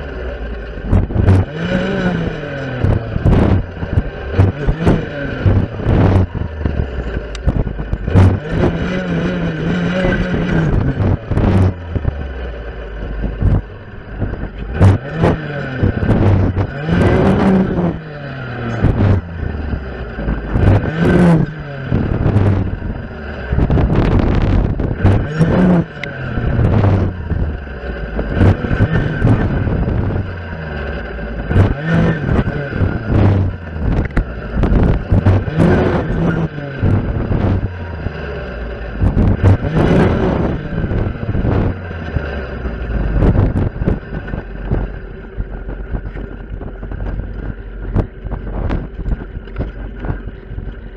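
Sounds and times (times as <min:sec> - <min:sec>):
clearing saw engine revving: 0:00.0 - 0:50.9.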